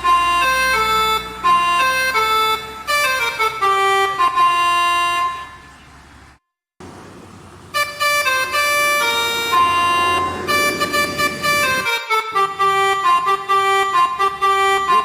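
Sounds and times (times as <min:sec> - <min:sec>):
bus air horns playing tune: 0:00.0 - 0:05.6, 0:07.7 - 0:15.0.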